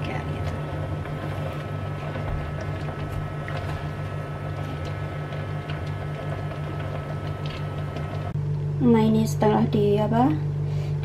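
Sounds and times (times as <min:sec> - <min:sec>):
appliance fan whirring hum: 0:00.0 - 0:11.0.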